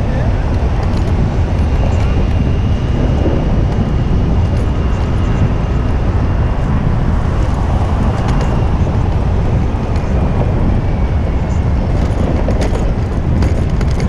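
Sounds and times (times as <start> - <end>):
city street traffic: 0.0 - 14.0
wind on microphone: 0.0 - 14.0.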